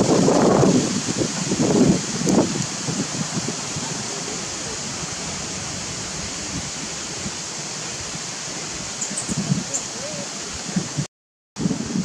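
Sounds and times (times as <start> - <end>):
wind rumble on microphone: 0.0 - 12.0
outdoor background hiss: 0.1 - 11.0.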